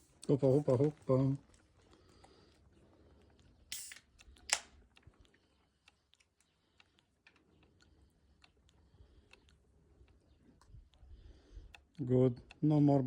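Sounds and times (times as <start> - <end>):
small clicks and pops: 0.2 - 13.0.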